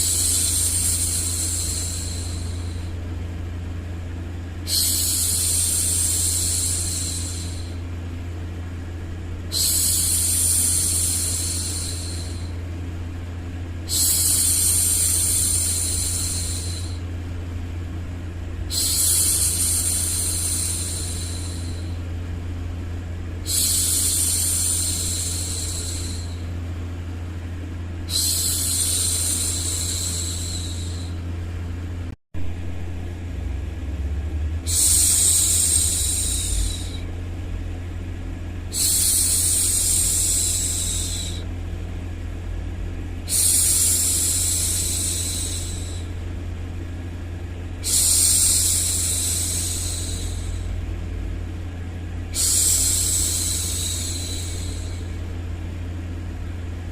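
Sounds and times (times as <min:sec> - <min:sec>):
low white-noise rumble: 0:00.0 - 0:56.9.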